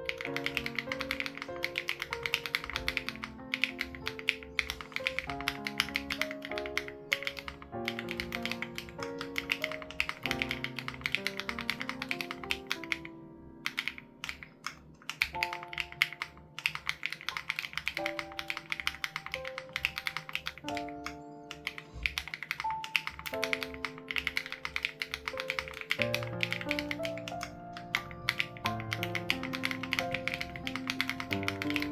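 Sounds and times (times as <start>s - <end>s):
mechanical keyboard typing: 0.0s - 31.9s
soft background music: 0.0s - 31.9s.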